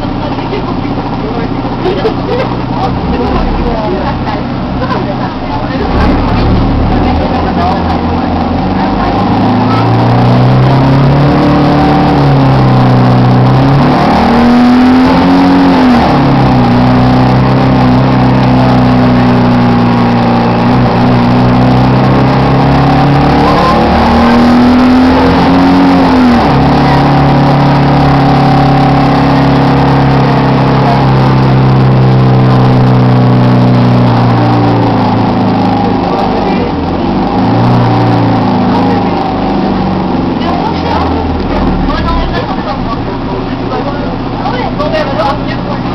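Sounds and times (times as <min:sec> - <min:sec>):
bus engine droning: 0:00.0 - 0:45.9.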